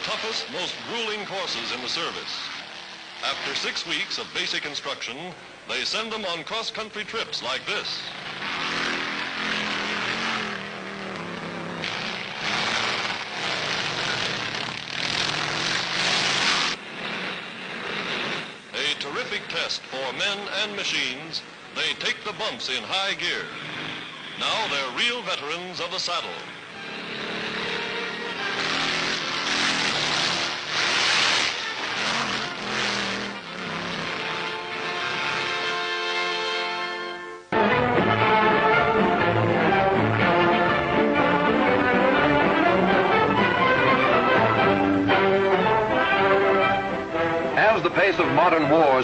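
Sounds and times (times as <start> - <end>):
motorcycle engines passing: 0.0 - 49.0.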